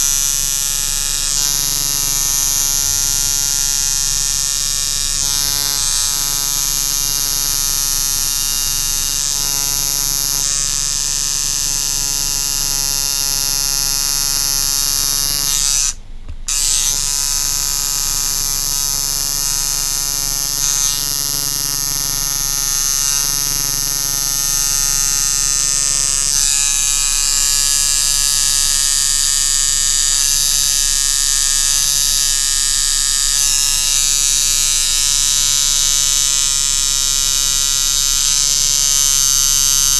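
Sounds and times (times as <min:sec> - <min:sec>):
tattoo machine buzzing: 0:00.0 - 0:39.9.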